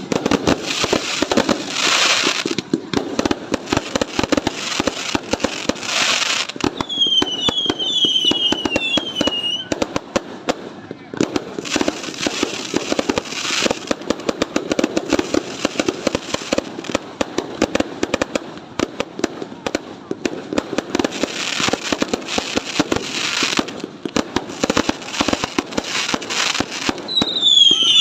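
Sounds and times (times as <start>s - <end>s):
fireworks bangs and crackles: 0.0s - 28.0s
fireworks hiss: 0.0s - 28.0s.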